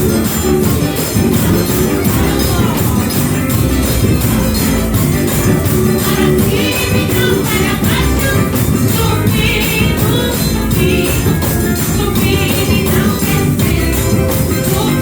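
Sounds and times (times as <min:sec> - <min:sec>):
gospel music: 0:00.0 - 0:15.0
tambourine jingles: 0:00.0 - 0:15.0
voices singing: 0:00.0 - 0:15.0.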